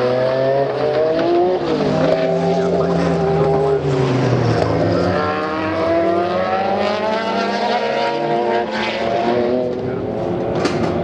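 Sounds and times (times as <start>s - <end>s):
racing car engines accelerating: 0.0s - 11.0s.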